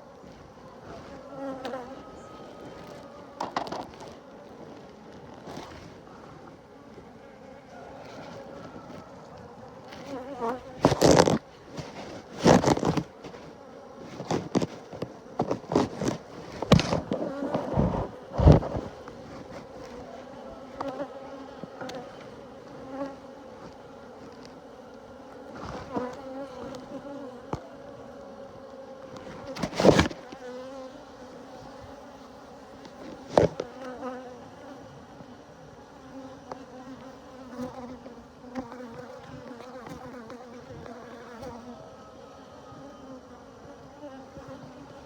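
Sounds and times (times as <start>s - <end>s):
bees buzzing: 0.0s - 45.0s.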